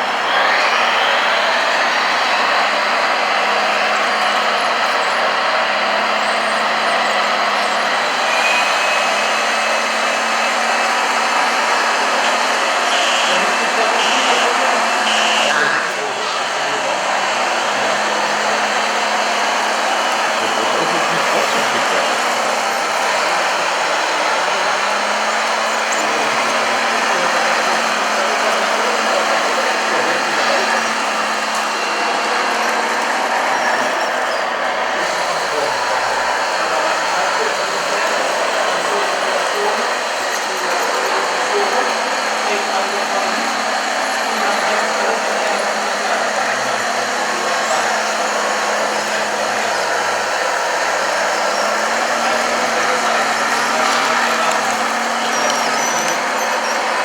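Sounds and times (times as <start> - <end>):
model motors whirring: 0.0 - 57.0.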